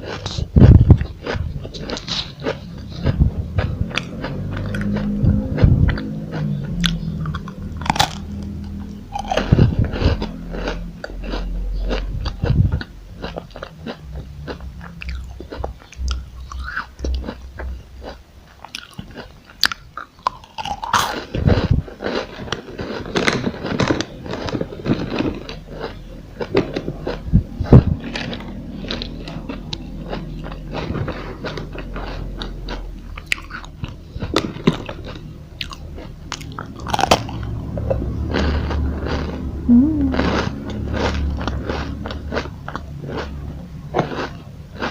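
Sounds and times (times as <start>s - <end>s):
crunching bites and chewing: 0.0s - 39.5s, 40.1s - 44.9s.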